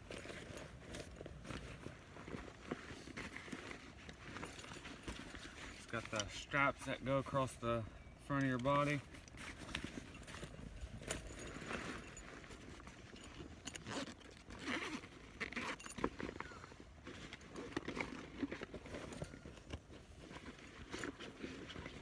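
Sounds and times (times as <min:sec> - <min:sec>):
straps and buckles clicking: 0:00.0 - 0:07.6, 0:08.2 - 0:22.0.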